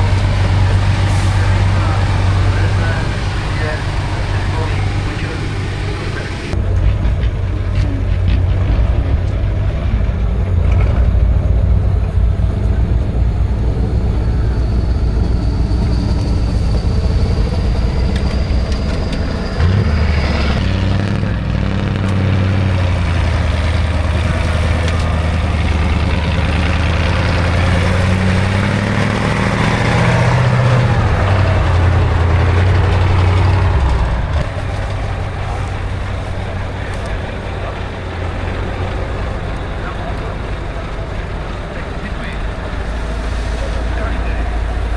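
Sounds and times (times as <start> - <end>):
diesel truck engine labouring: 0.0 - 44.9.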